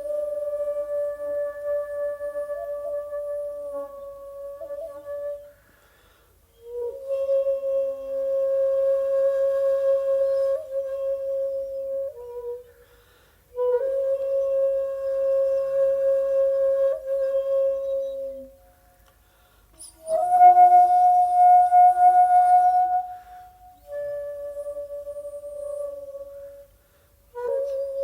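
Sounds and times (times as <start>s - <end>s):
bamboo flute long notes: 0.0s - 28.0s.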